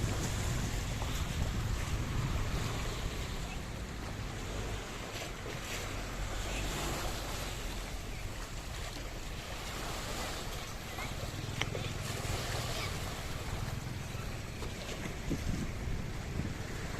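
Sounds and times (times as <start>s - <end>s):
sea waves: 0.0s - 16.9s
wind: 0.0s - 16.9s.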